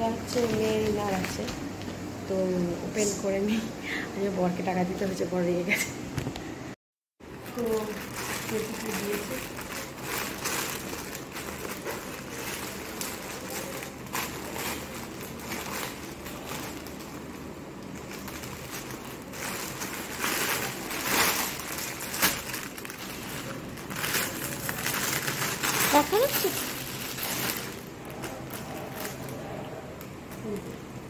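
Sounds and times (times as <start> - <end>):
plastic packaging rustling: 0.0 - 2.1, 7.3 - 30.9.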